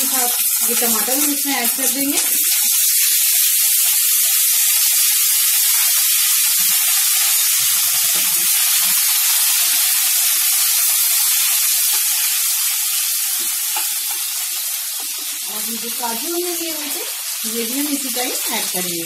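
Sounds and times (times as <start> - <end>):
tomatoes sizzling in oil: 0.0 - 19.0.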